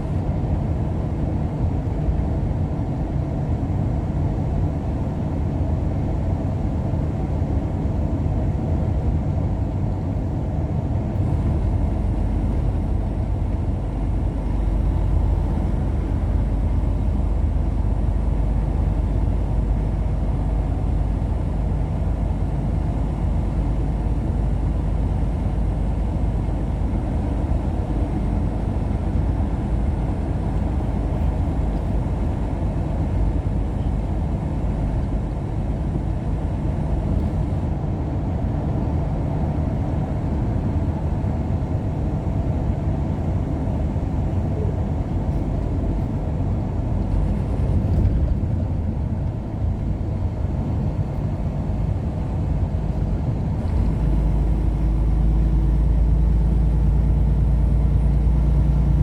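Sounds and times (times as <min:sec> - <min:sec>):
vehicle driving rumble: 0:00.0 - 0:59.0.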